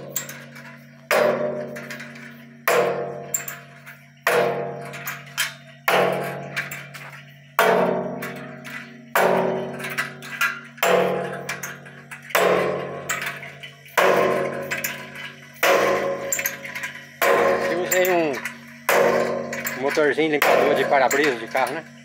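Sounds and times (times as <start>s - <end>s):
steel arm banging on steel drum: 0.0s - 22.0s.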